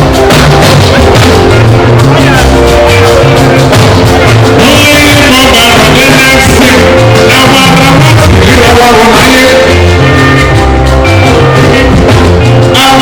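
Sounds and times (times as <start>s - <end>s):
juju band playing: 0.0s - 13.0s
person singing: 0.0s - 13.0s.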